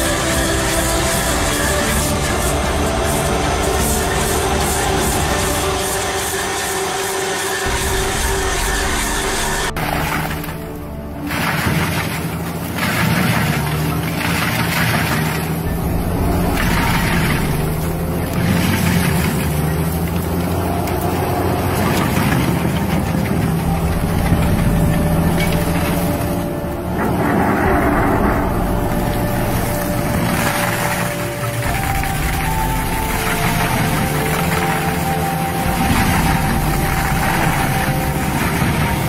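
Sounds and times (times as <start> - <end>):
stump grinder engine humming: 0.0 - 39.0.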